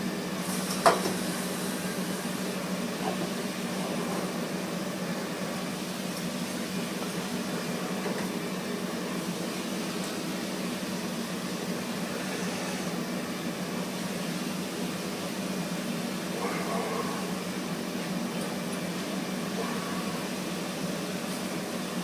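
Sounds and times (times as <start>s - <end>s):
gas burner roaring: 0.0s - 22.0s.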